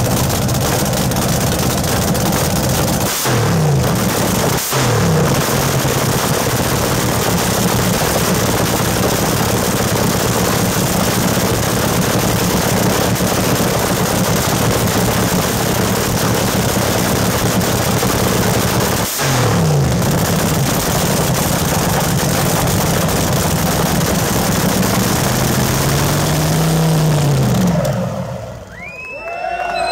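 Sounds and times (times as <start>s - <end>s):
dragster engine idling loud: 0.0s - 28.8s.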